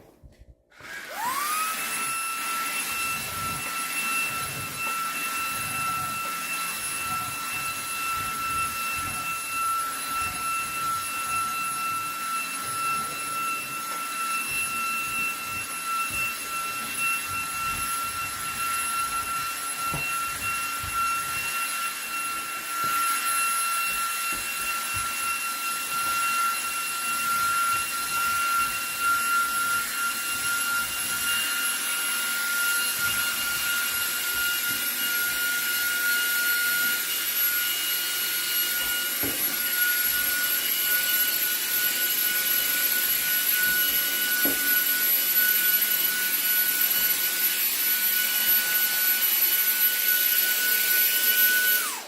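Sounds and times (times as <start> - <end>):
handheld vacuum motor whine: 0.0 - 52.0.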